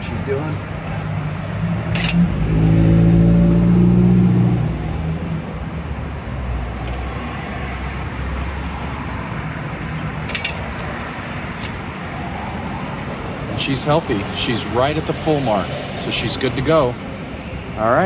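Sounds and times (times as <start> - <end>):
traffic rumble: 0.0 - 18.0
vehicle engine hum: 0.0 - 18.0.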